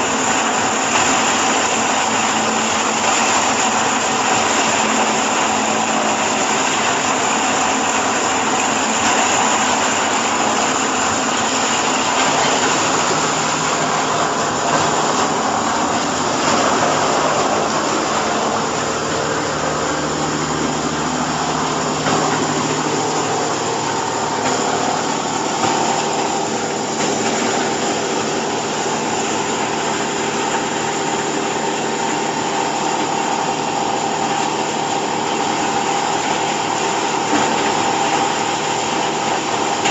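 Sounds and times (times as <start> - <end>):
baler machine running: 0.0 - 39.9.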